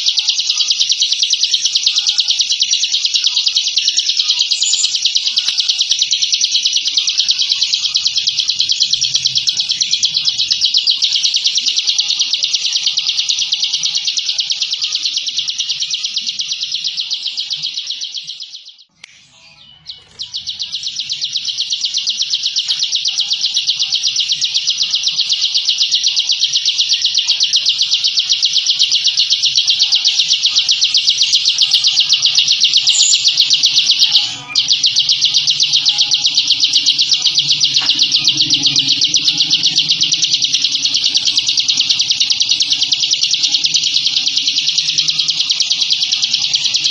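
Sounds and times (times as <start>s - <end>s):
bird singing high-pitched trill: 0.0s - 46.9s.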